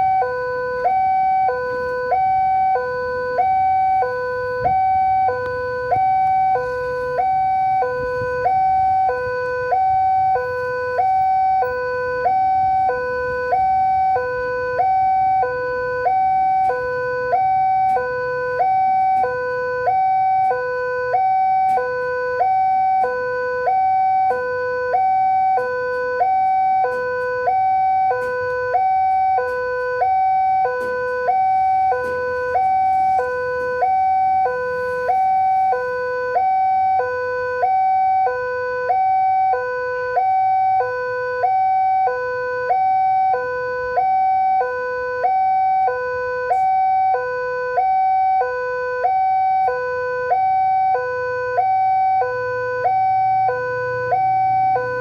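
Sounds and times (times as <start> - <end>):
electronic two-tone warning alarm: 0.0 - 55.0.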